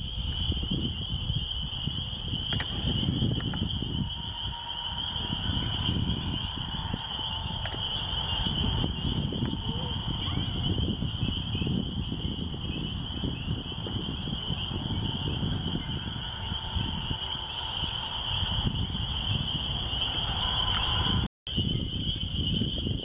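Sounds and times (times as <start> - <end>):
frogs peeping: 0.0 - 23.0
wind rumble on microphone: 0.0 - 23.0.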